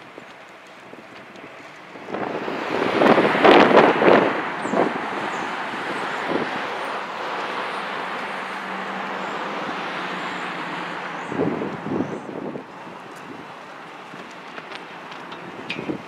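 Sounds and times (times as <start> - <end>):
traffic and tyre noise: 0.0 - 16.0
truck engine drone: 0.0 - 16.0
wind buffeting microphone: 0.0 - 16.0.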